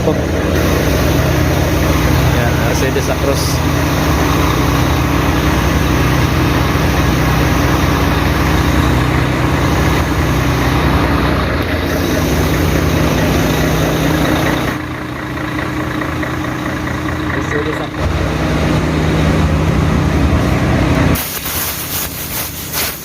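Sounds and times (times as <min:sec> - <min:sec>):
loud rushing noise: 0:00.0 - 0:14.8, 0:17.9 - 0:23.0
diesel truck engine idling: 0:00.0 - 0:23.0.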